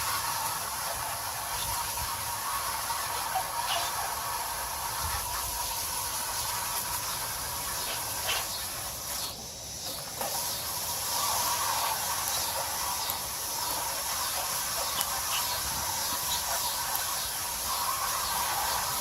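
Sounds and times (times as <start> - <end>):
garden hose spraying water: 0.0 - 19.0.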